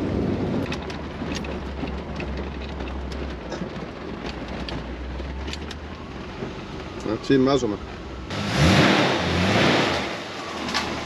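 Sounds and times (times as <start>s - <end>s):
engine running low and steady: 0.0s - 11.0s.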